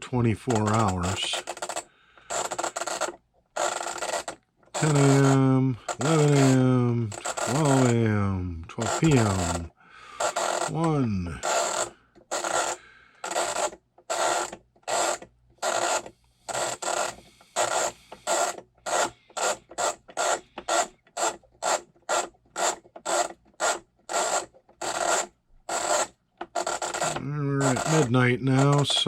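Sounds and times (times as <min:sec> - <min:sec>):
flip clock mechanism whirring: 0:00.1 - 0:29.0.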